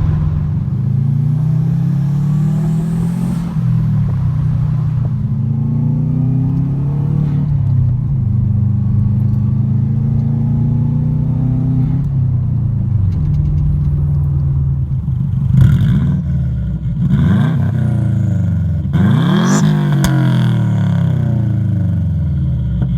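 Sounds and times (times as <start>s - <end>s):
car engine accelerating and revving: 0.0s - 22.0s.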